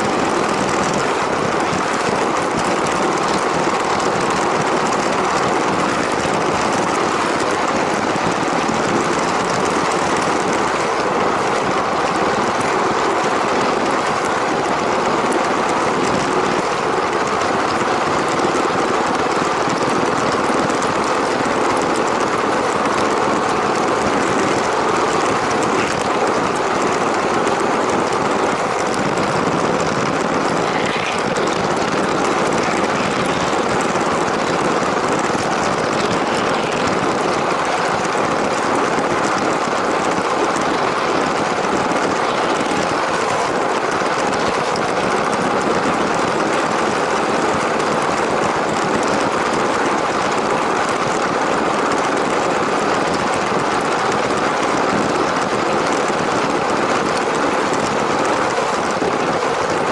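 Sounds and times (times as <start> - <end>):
toy train running on plastic track: 0.0 - 59.9.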